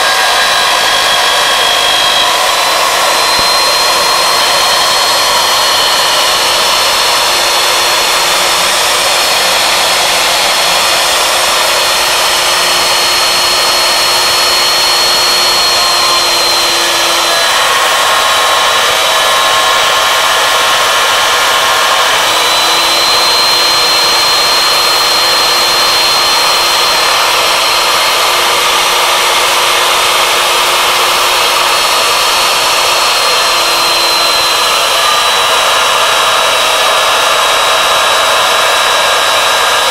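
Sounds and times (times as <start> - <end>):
end mill cutting wood: 0.0 - 39.9
router spindle whining: 0.0 - 39.9.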